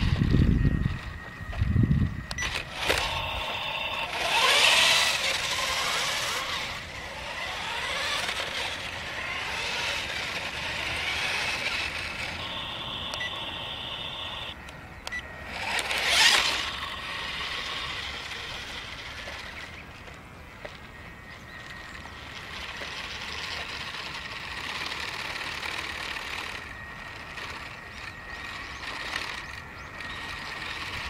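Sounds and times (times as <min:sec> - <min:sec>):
electric motor and gears whining: 0:00.0 - 0:31.0.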